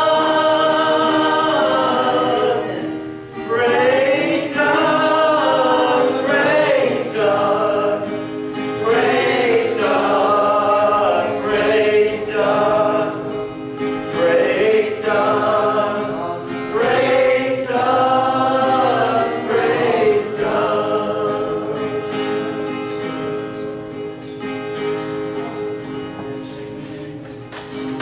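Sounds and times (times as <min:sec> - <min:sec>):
guitar accompaniment: 0:00.0 - 0:28.0.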